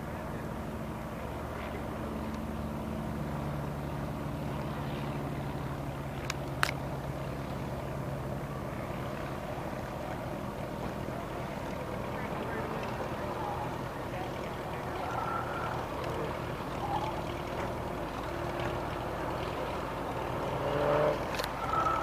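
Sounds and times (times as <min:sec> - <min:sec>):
distant car engine: 0:00.0 - 0:22.0.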